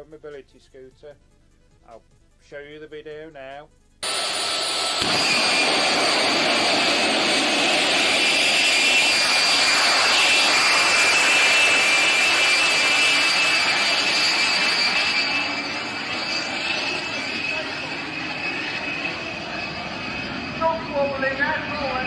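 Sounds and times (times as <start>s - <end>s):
high turbine whine: 3.7s - 22.0s
jet engine roaring: 4.0s - 22.0s.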